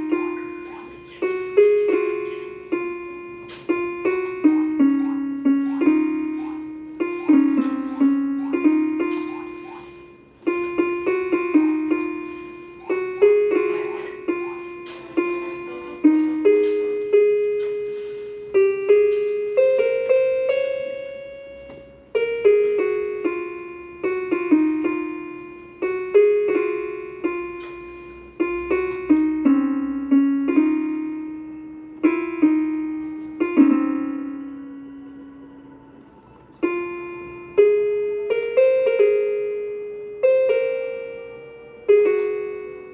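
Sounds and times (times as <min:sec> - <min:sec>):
electronic keyboard harp melody: 0:00.0 - 0:42.9.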